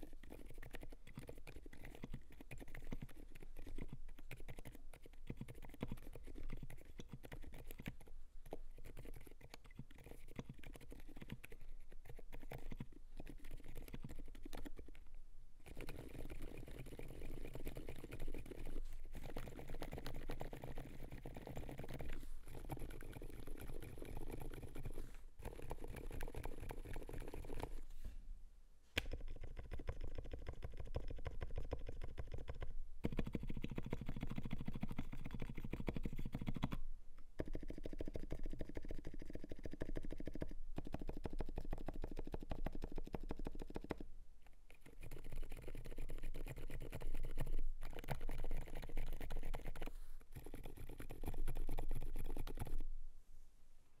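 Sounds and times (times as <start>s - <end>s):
fast keyboard typing: 0.3s - 8.0s, 8.8s - 14.8s, 15.7s - 27.8s, 29.1s - 36.8s, 37.4s - 44.0s, 44.8s - 52.8s.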